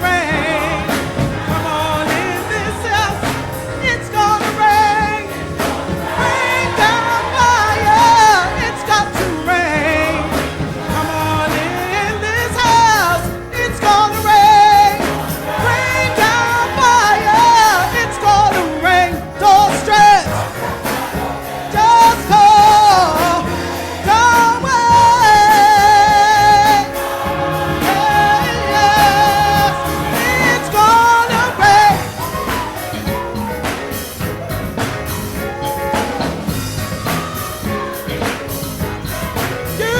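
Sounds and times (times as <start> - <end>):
choir singing gospel song: 0.0 - 39.9.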